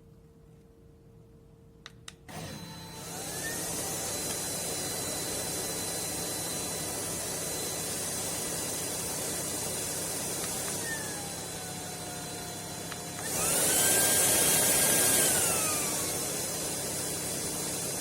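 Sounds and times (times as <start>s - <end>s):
vacuum cleaner running: 2.3s - 18.0s.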